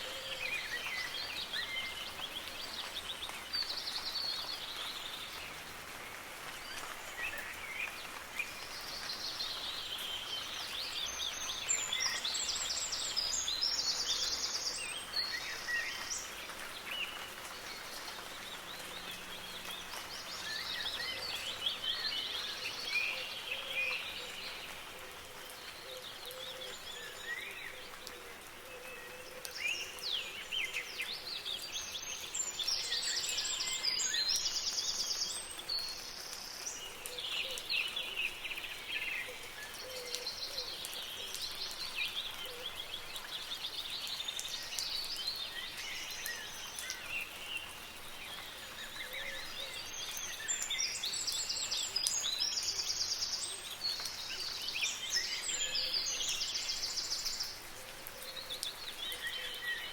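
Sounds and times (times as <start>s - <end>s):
soft rain patter: 0.0s - 59.9s
songbirds singing and chirping: 0.0s - 59.9s.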